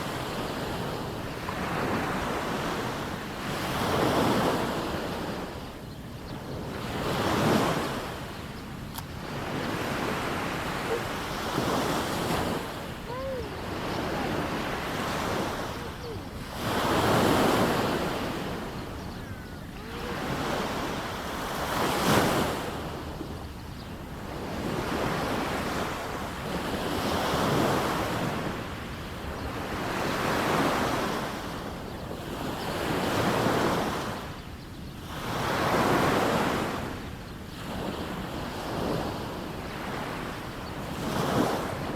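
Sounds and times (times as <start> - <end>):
waves breaking on sandy beach: 0.0 - 34.4, 35.0 - 41.9.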